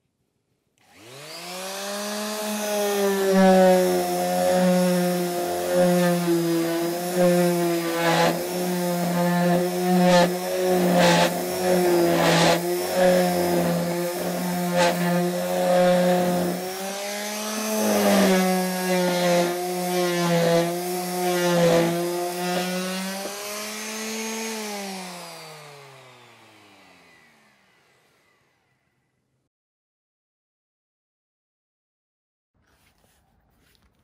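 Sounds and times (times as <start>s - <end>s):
electric sander motor hum: 0.8s - 28.8s.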